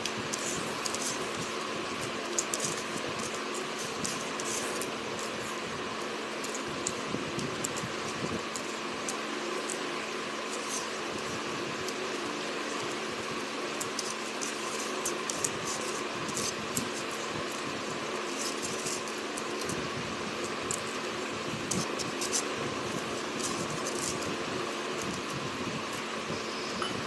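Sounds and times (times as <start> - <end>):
people eating smacks and clicks: 0.0 - 26.0
room fan humming: 0.0 - 27.0.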